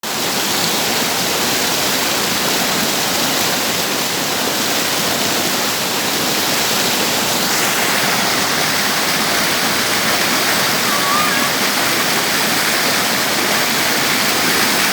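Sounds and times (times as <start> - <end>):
waterfall roaring: 0.1 - 14.9.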